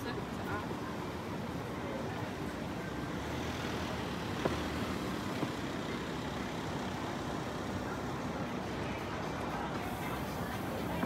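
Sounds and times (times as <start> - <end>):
motor vehicles rumbling past: 1.6 - 11.0.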